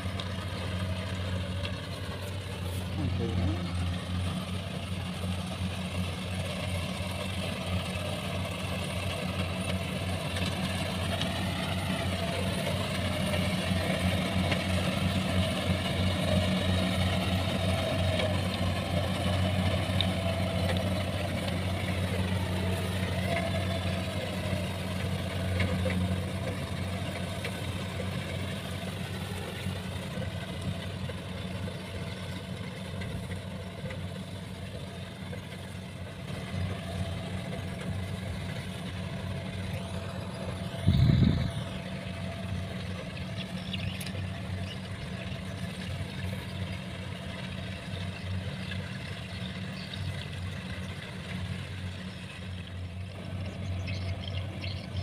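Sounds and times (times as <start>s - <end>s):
combine harvester droning: 0.0s - 55.0s.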